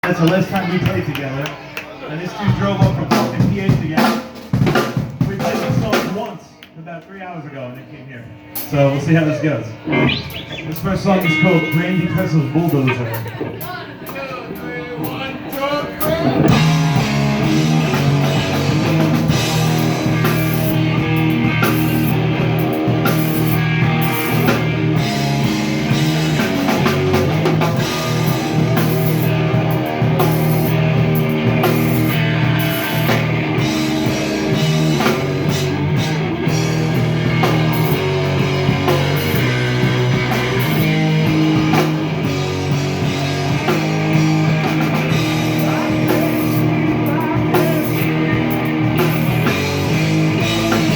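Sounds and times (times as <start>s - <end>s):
rock band playing live: 2.5s - 6.2s, 8.5s - 50.9s.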